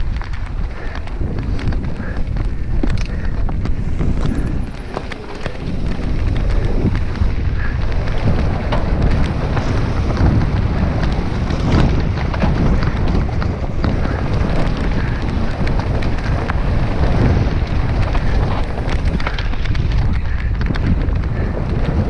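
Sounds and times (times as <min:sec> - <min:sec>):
bike rattling and knocking: 0:00.0 - 0:22.0
tyres rumbling on dirt: 0:00.0 - 0:22.0
wind buffeting microphone: 0:00.0 - 0:22.0.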